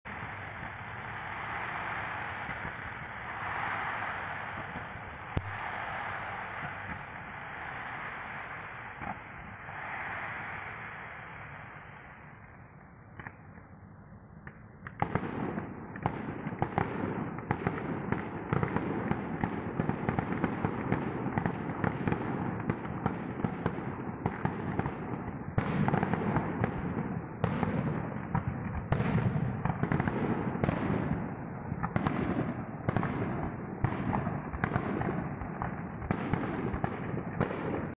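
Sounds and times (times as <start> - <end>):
fireworks crackling and popping: 0.1 - 12.4, 14.4 - 38.0.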